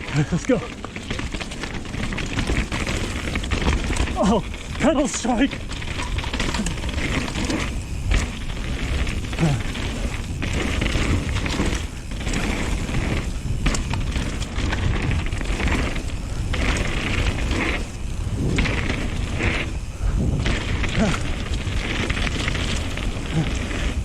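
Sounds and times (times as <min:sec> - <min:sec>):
bike knocks and rattles: 0:00.0 - 0:24.0
tyres rushing through mud: 0:00.0 - 0:24.0
wind and trail rumble: 0:00.0 - 0:24.0.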